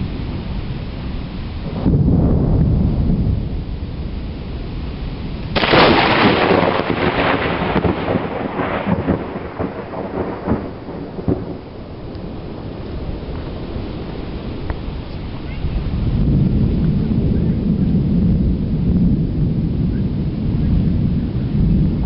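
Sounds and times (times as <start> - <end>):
rain falling: 0.0 - 22.0
thunder rumbling and cracking: 0.0 - 22.0.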